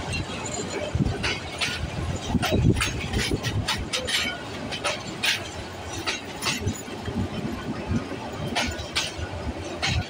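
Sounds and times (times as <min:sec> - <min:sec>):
train coaches rolling past: 0:00.0 - 0:10.0
wheels clacking over rail joints: 0:00.0 - 0:10.0.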